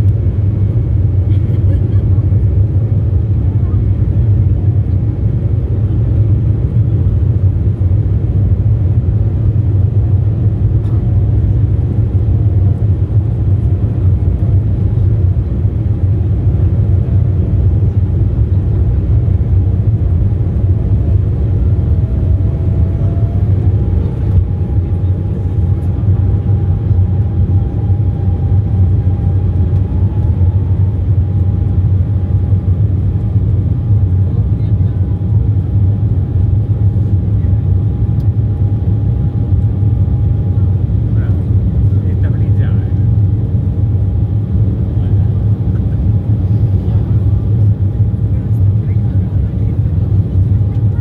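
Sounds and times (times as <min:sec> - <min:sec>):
faint engine whine: 0:00.0 - 0:51.0
jet engine rumble in cabin: 0:00.0 - 0:51.0.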